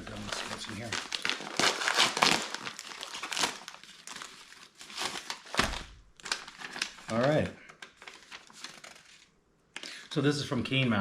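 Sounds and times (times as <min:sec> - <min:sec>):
packaging crinkling and rustling: 0:00.0 - 0:09.3.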